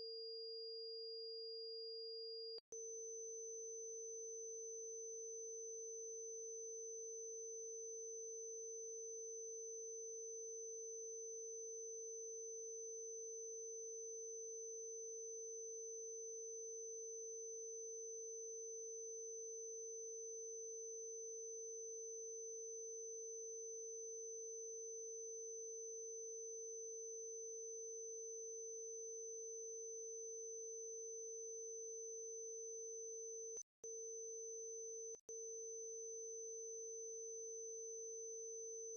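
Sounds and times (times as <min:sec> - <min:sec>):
mid-pitched sine tone: 0:00.0 - 0:38.9.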